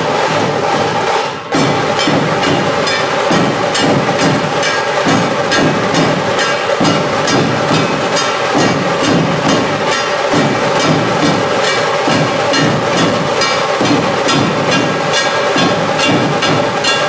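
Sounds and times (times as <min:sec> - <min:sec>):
dhol drums beating: 0:00.0 - 0:17.0
tasha drums rattling: 0:00.0 - 0:17.0.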